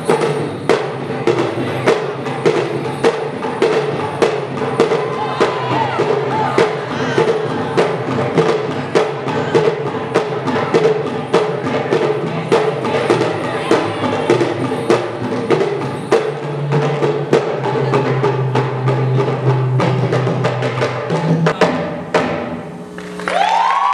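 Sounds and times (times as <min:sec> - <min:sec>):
dance music with drums: 0:00.0 - 0:23.2.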